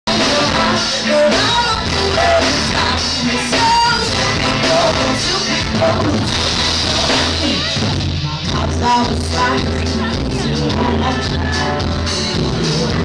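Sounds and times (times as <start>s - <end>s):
bass guitar: 0.0s - 13.0s
electric guitar: 0.1s - 13.0s
woman singing lead vocals: 0.1s - 13.0s.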